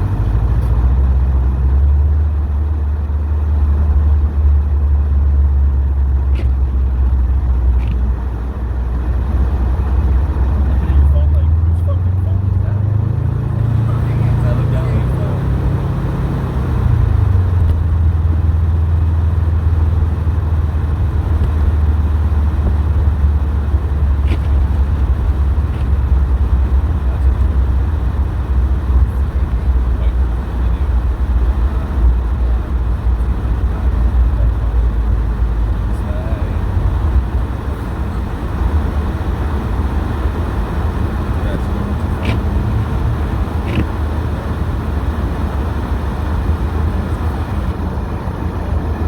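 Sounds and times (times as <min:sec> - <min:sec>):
car engine drone: 0:00.0 - 0:49.0
road and tyre noise: 0:00.0 - 0:49.0.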